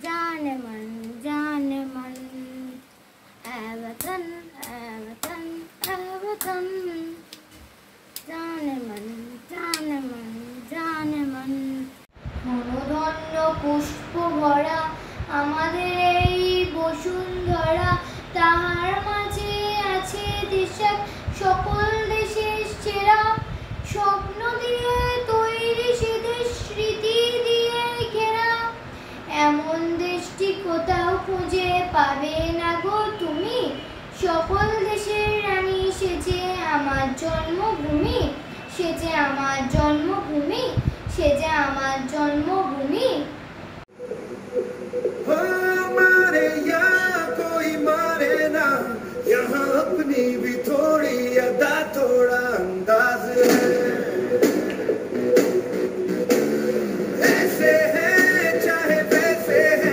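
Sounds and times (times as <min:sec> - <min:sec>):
boy singing: 0:00.0 - 0:07.5, 0:08.2 - 0:43.2, 0:45.2 - 0:54.4, 0:57.2 - 0:59.9.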